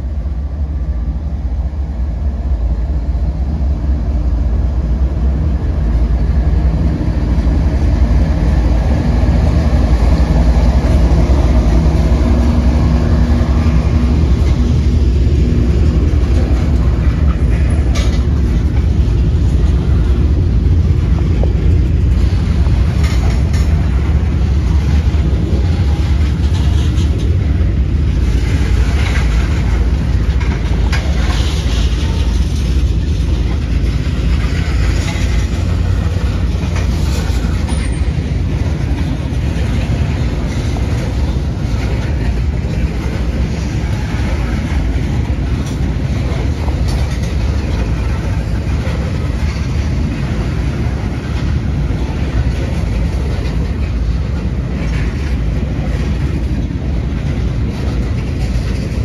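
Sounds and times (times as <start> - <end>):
train wheels rumbling on rail: 0.0 - 59.0
wheels clicking over rail joints: 4.7 - 59.0.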